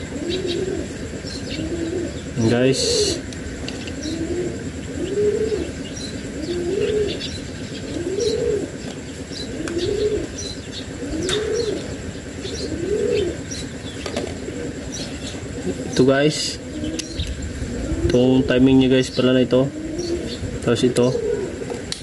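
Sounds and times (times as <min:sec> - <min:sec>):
dove cooing: 0:00.0 - 0:22.0
small birds chirping: 0:00.0 - 0:22.0.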